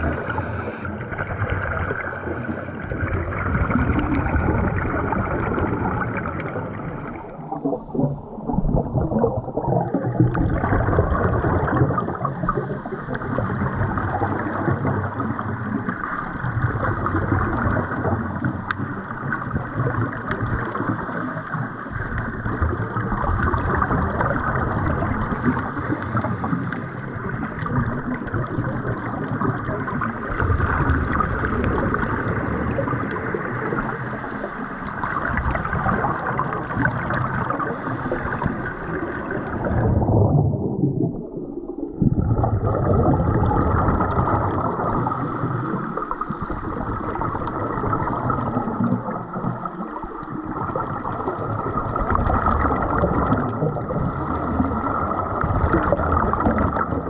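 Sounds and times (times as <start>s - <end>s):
muffled underwater bubbles gurgling: 0.0s - 57.0s
water rushing underwater: 0.0s - 57.0s.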